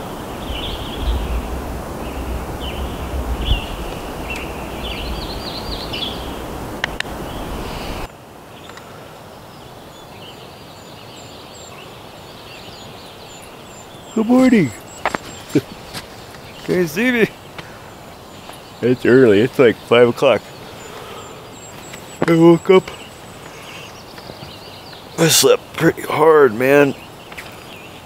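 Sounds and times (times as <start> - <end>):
steady rushing noise: 0.0 - 10.2, 10.9 - 28.0
birds chirping: 0.0 - 28.0.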